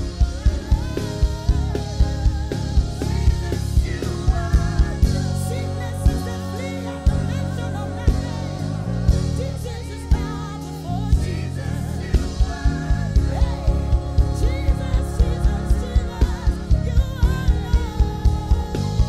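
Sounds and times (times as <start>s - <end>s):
drum hits: 0.0s - 19.0s
electric bass: 0.0s - 19.0s
person singing: 0.0s - 19.0s.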